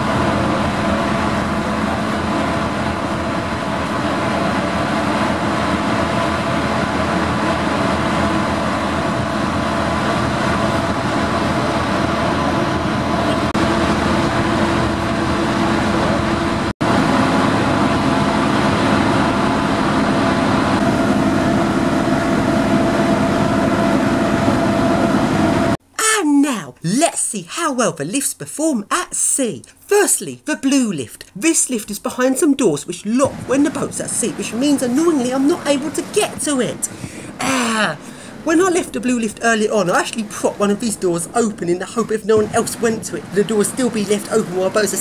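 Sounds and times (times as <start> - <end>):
ferry engines droning: 0.0 - 25.8, 31.5 - 45.0.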